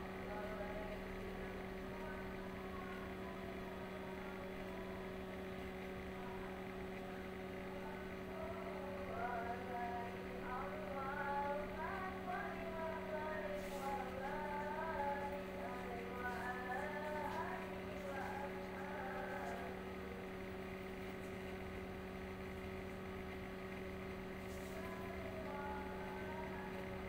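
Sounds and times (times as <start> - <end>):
electrical hum: 0.0 - 27.0
faint music and singing: 0.0 - 27.0.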